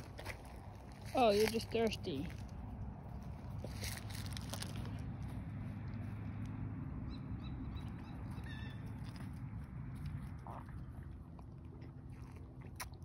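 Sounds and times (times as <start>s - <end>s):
goat drinking water: 0.0s - 13.0s.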